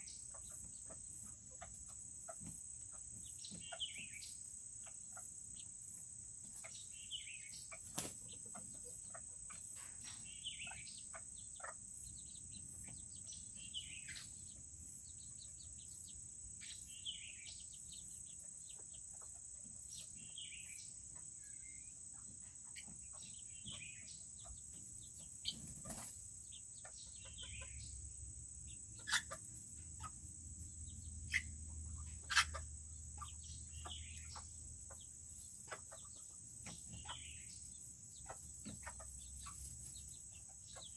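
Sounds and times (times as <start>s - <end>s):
chickens calling: 0.0s - 40.9s
high insect-like whine: 0.0s - 40.9s.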